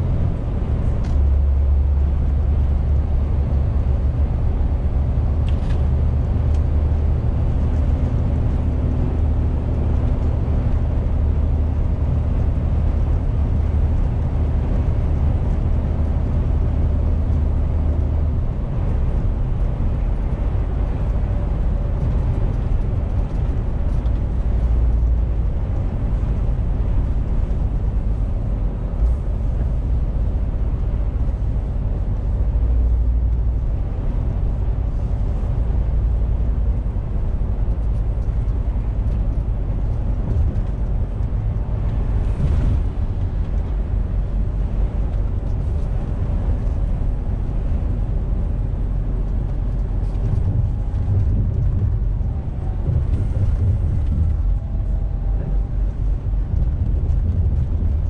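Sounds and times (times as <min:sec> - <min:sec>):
diesel engine drone: 0:00.0 - 0:58.0
tyre and road noise: 0:00.0 - 0:58.0.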